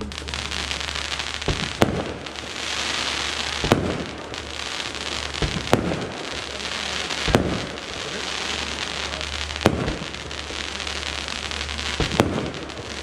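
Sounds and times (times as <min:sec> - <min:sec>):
firework bangs: 0:00.0 - 0:13.0
fireworks crackling: 0:00.0 - 0:13.0.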